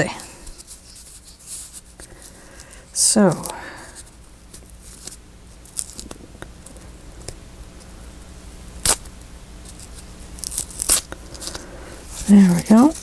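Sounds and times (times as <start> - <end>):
tape and paper rustling: 0.1 - 6.9, 8.8 - 13.0.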